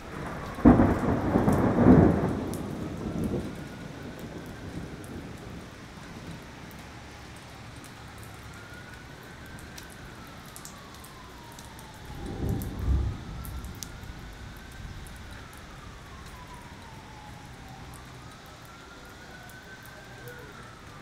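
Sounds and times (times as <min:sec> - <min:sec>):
low rumble of thunder: 0:00.0 - 0:06.9, 0:08.1 - 0:21.0
heavy rain falling: 0:00.0 - 0:21.0
siren wailing: 0:00.1 - 0:21.0.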